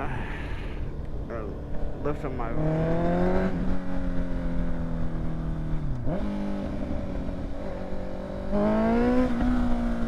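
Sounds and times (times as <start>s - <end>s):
motorcycle engine revving: 1.5s - 10.0s.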